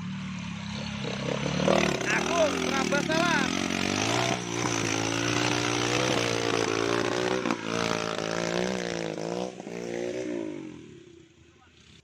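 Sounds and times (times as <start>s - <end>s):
car engine working hard: 0.0s - 9.7s.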